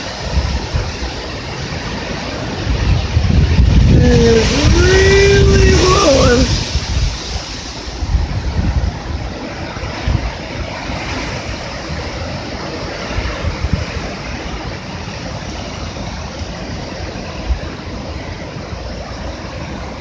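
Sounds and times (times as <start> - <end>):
wind rushing: 0.0 - 20.0
wind thumps on microphone: 0.0 - 20.0.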